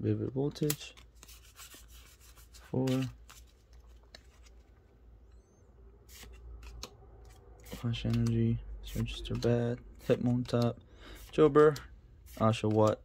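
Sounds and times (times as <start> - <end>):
cards rubbing against cards: 0.6 - 4.7, 6.0 - 13.0.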